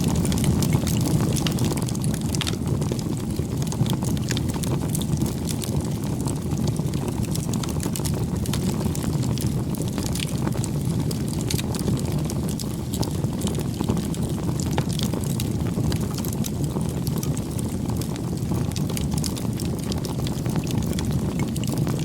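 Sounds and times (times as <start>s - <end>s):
burning wood crackling and popping: 0.0s - 22.0s
campfire flames rushing: 0.0s - 22.0s.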